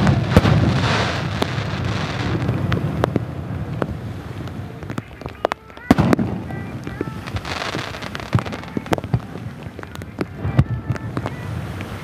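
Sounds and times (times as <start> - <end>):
firework sharp reports: 0.0 - 12.0
fireworks crackling and hissing: 0.0 - 12.0.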